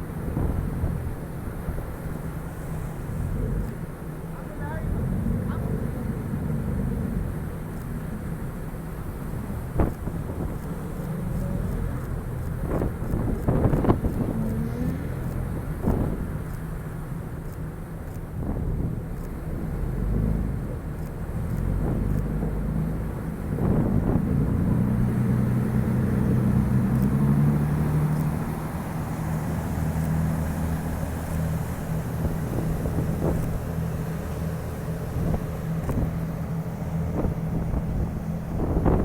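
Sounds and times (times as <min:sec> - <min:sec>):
boat engine humming: 0:00.0 - 0:39.0
wind rumbling on microphone: 0:00.0 - 0:39.0.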